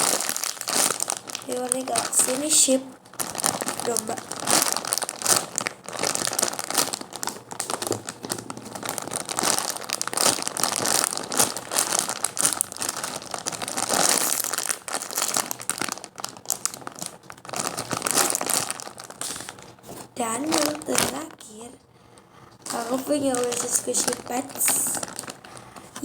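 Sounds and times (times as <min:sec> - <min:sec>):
plastic crinkling and rustling: 0:00.0 - 0:26.0.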